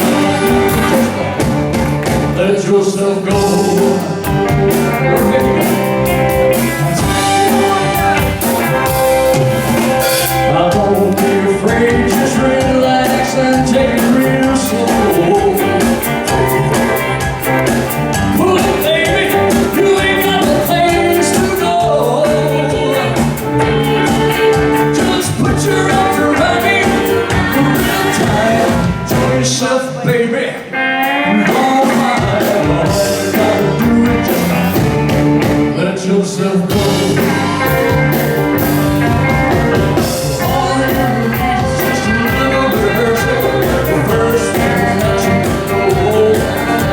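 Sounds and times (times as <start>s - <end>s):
drums keeping a steady beat: 0.0s - 29.6s, 31.4s - 35.8s, 36.7s - 46.9s
rock band playing: 0.0s - 46.9s
person singing: 2.1s - 46.9s.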